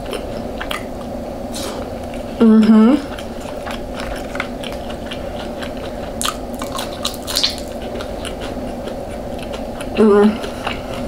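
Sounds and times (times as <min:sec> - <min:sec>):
chewing food with mouth clicks: 0:00.0 - 0:01.1, 0:03.1 - 0:11.0.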